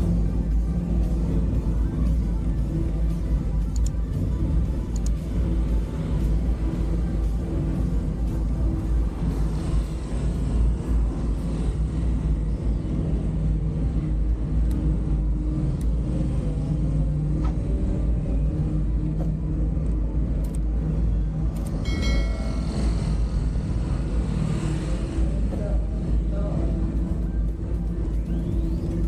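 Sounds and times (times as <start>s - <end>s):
motorbike engine hum: 0.0s - 29.0s.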